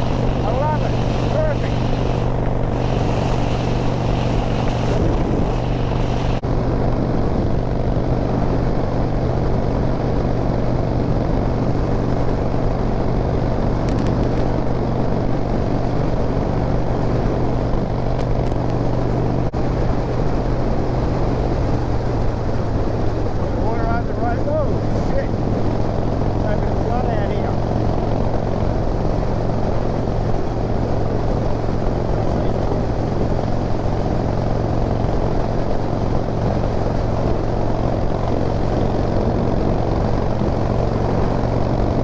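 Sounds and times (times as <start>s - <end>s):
motorcycle engine cruising: 0.0s - 42.0s.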